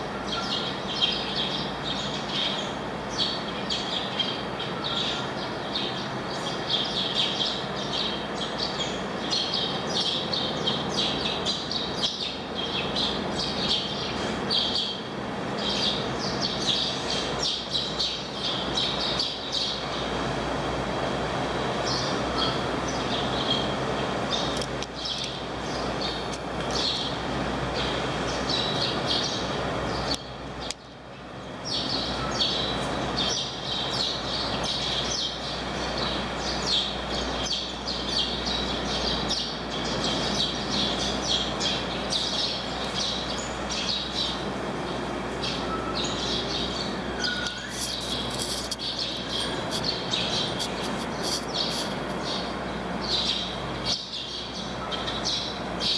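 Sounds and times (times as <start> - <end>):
ferry engines rumbling: 0.0 - 55.8
small birds chirping: 0.0 - 55.9.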